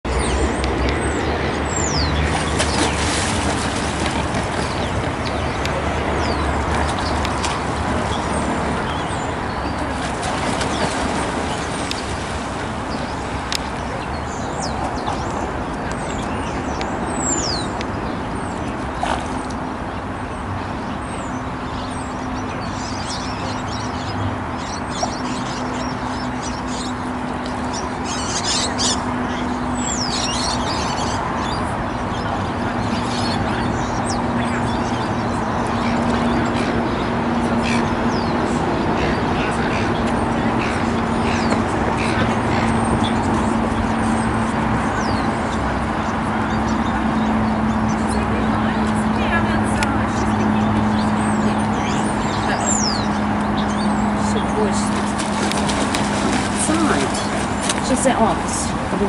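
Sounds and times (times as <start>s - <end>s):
outdoor background noise: 0.0s - 59.0s.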